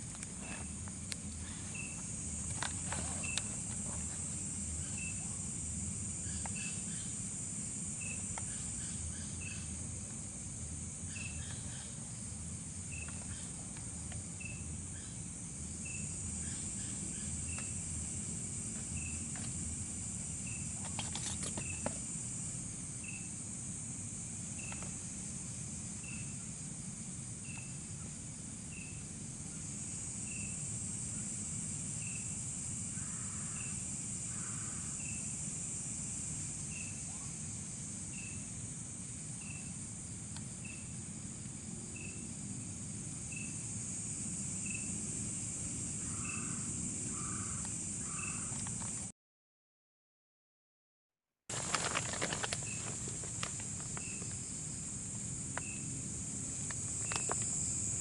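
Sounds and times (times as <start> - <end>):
crickets trilling: 0.0 - 49.1, 51.5 - 58.0
short insect chirp: 0.0 - 49.1, 51.5 - 58.0
soft lower insect calls: 0.0 - 49.1, 51.5 - 58.0.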